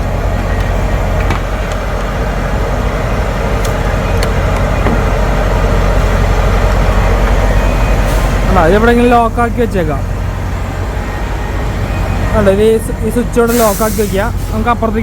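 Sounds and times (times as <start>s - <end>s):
diesel pump humming and rushing: 0.0s - 15.0s.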